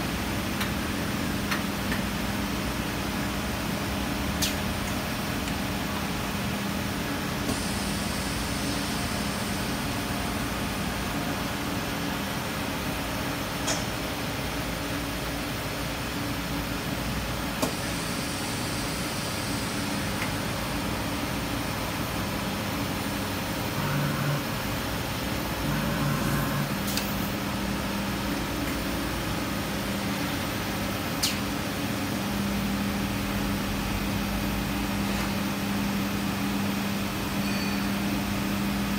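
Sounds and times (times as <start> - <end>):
machine humming and droning: 0.0 - 38.9.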